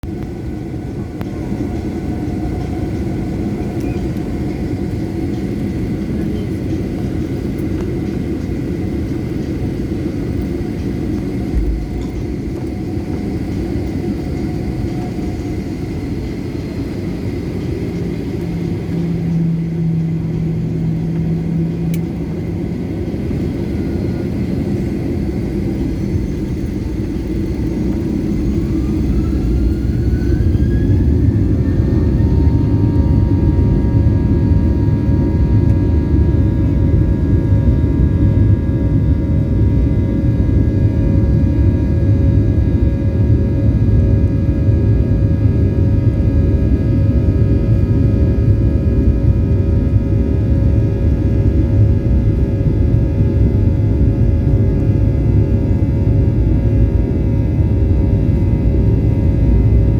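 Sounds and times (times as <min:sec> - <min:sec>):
jet engine low rumble: 0:00.0 - 0:59.9
jet engine whine rising: 0:00.0 - 0:59.9.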